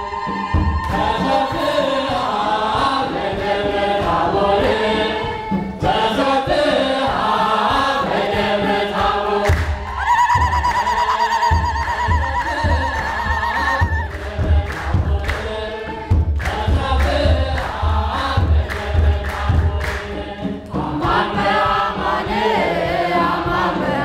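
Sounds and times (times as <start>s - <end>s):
choir singing a hymn: 0.0s - 24.0s
low pulsing beat: 0.0s - 24.0s.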